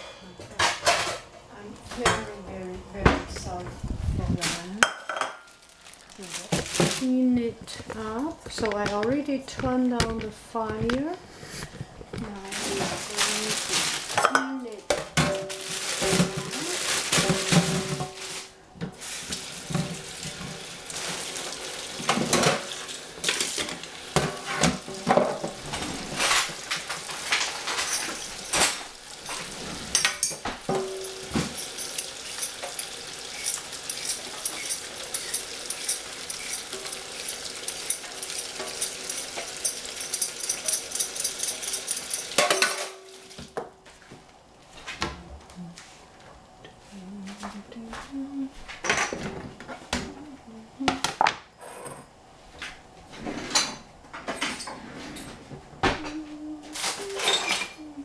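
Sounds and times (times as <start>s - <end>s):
pots clattering in steel sink: 0.0s - 2.4s, 4.4s - 43.8s, 48.8s - 50.2s, 50.9s - 57.9s.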